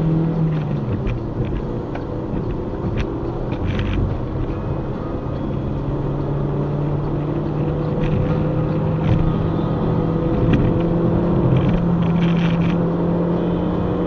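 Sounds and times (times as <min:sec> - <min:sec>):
car engine hum: 0:00.0 - 0:14.0
tyre and road rumble: 0:00.0 - 0:14.0.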